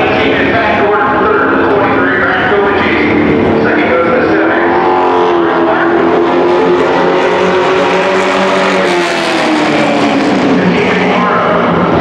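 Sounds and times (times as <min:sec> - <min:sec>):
racing truck engine running hard: 0:00.0 - 0:12.0.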